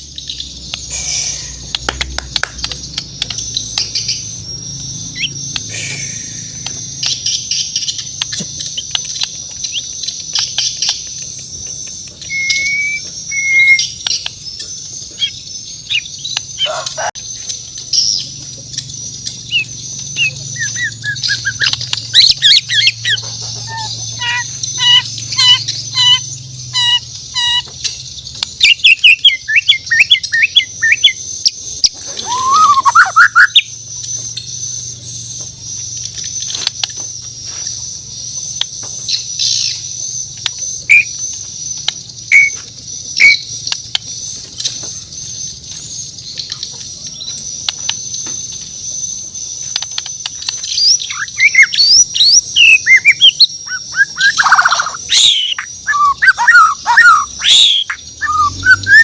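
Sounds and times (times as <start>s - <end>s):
bird singing whistled notes: 0.0s - 59.0s
sharp bird notes and clicks: 0.0s - 59.0s.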